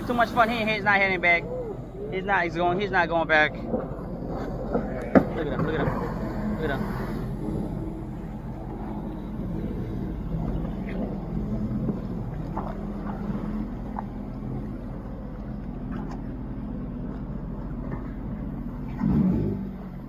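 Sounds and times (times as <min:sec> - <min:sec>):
jet ski engine running: 0:00.0 - 0:20.0
water splashing: 0:00.0 - 0:20.0.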